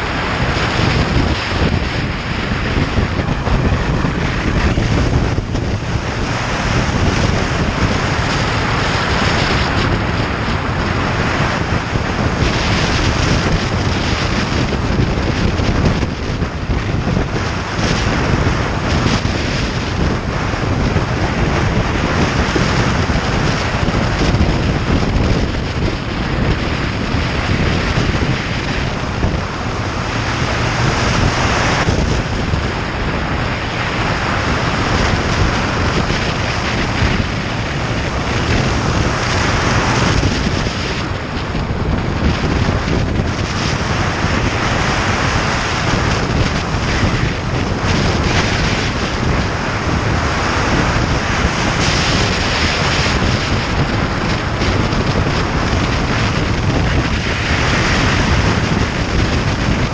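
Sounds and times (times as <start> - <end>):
motorcycle engine: 0.0 - 59.9
road noise: 0.0 - 59.9
wind rushing over microphone: 0.0 - 59.9.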